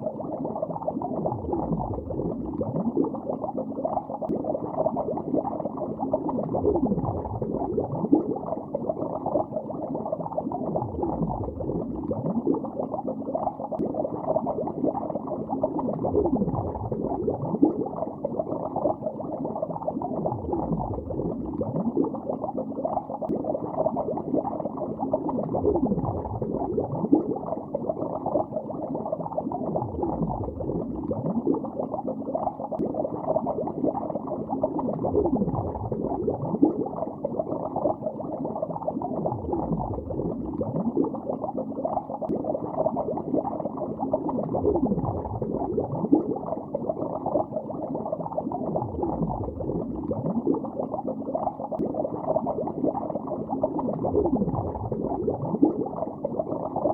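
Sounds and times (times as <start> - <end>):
water bubbling underwater: 0.0 - 56.9.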